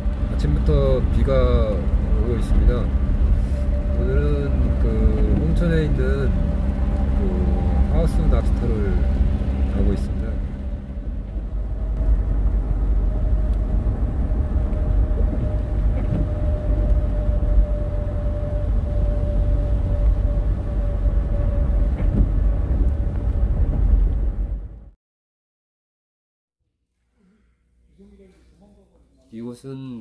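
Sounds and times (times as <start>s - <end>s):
car cabin road rumble: 0.0s - 24.9s.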